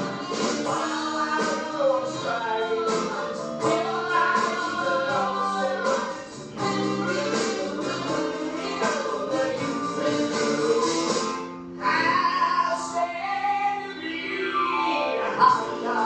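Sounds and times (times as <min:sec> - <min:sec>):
person singing with band: 0:00.0 - 0:16.0.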